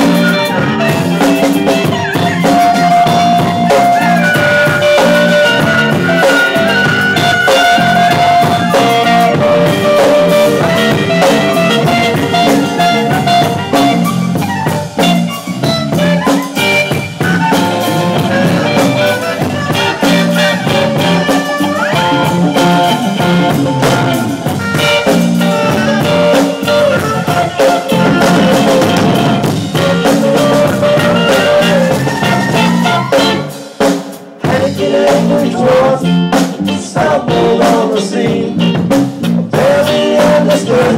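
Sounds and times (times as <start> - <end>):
band playing instrumental jam: 0.0 - 40.9
drum kit beat: 0.0 - 40.9.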